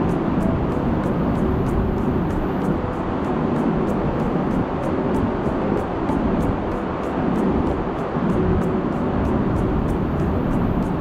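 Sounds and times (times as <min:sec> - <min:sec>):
background music with ticking beat: 0:00.0 - 0:11.0.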